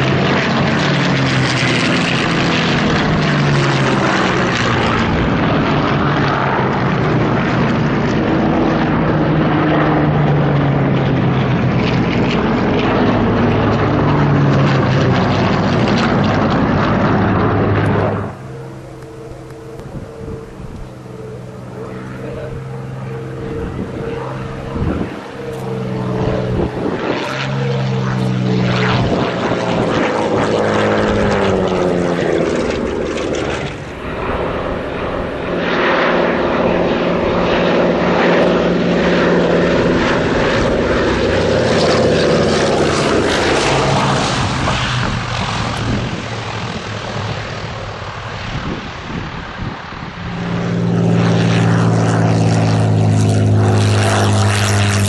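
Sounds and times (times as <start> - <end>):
propeller plane engine passing: 0.0 - 55.0
twin radial engines passing: 0.0 - 55.0.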